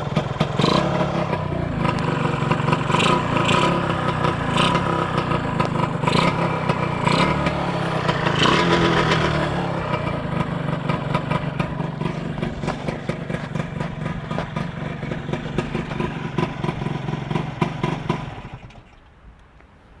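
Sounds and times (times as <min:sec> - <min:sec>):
motorcycle engine clattering: 0:00.0 - 0:19.1.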